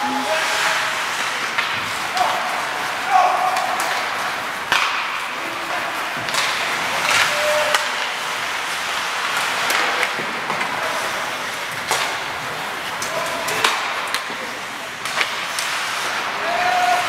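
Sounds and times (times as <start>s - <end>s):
arena crowd hubbub: 0.0s - 17.0s
skates scraping ice: 0.1s - 17.0s
sticks clacking on puck: 1.1s - 17.0s.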